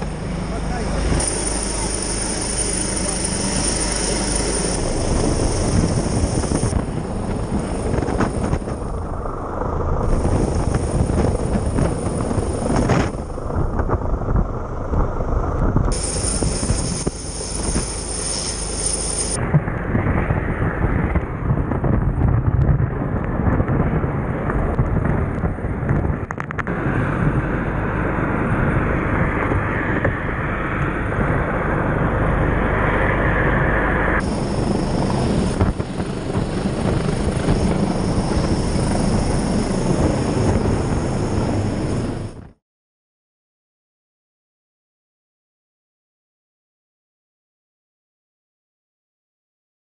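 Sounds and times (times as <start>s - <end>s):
helicopter rotor noise: 0.0s - 42.6s
wind rushing over microphone: 0.0s - 42.6s.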